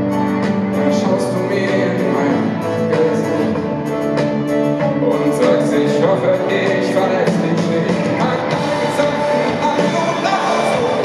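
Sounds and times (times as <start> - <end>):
pop-rock band playing live: 0.0 - 11.0.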